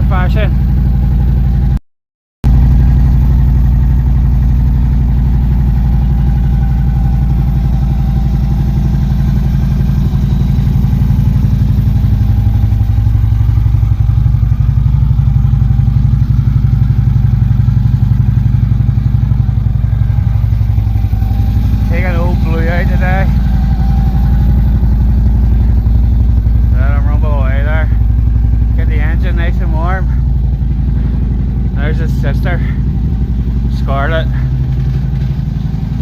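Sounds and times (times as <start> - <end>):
motorcycle engine idling: 0.0 - 1.8, 2.4 - 36.0.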